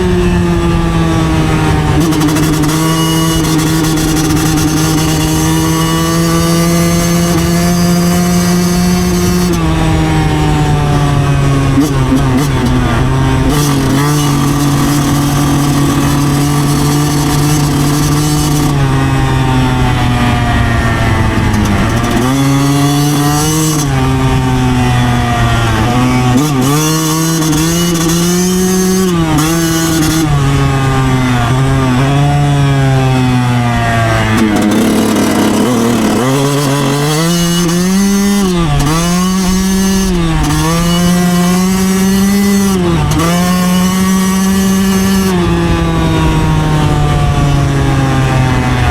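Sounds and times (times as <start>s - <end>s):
two-stroke engine revving: 0.0s - 48.9s.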